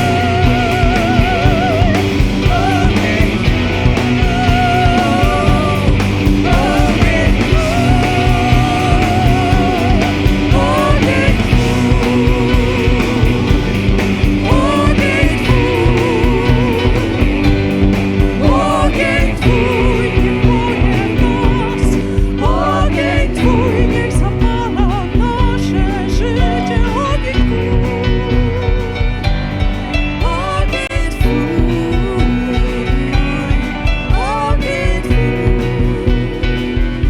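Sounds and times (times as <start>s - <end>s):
drum beat: 0.0s - 37.0s
rock band playing: 0.0s - 37.0s.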